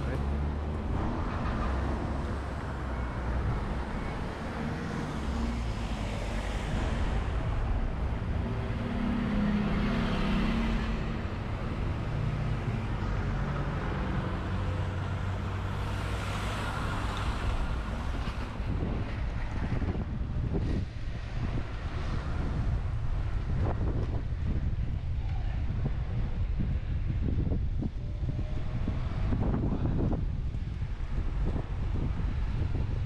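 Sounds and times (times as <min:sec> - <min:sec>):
wind noise on microphone: 0:00.0 - 0:33.0.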